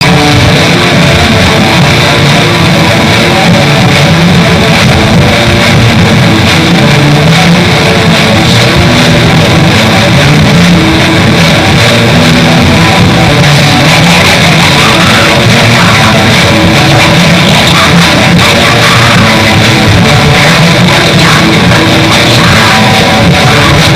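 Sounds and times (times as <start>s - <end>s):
black metal music: 0.0s - 23.9s.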